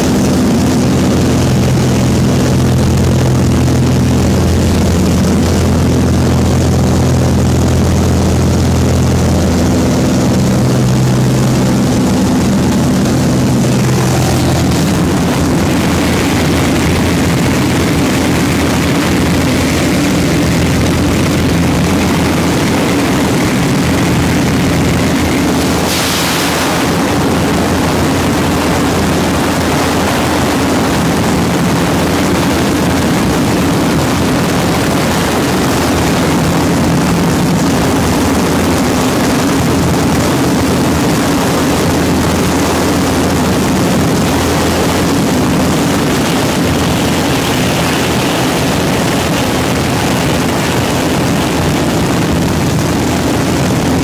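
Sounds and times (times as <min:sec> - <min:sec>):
aircraft engine droning in cabin: 0:00.0 - 0:54.0.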